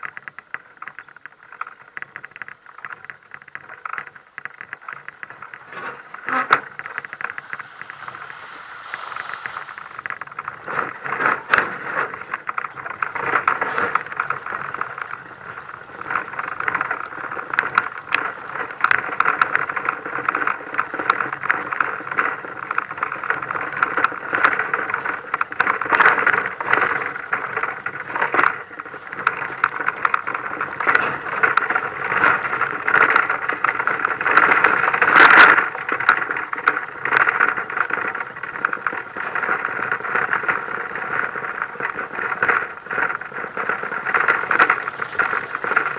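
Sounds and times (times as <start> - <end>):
muffled vehicle drive noise: 0.0 - 45.9
rattling and knocks from bumps: 0.0 - 45.9.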